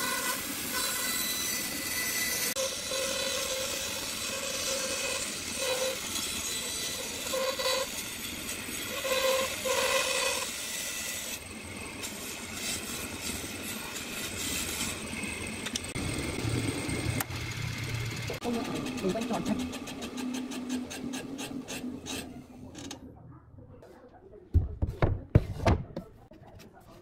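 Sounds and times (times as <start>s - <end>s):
band saw cutting wood: 0.0s - 16.1s, 16.8s - 22.5s.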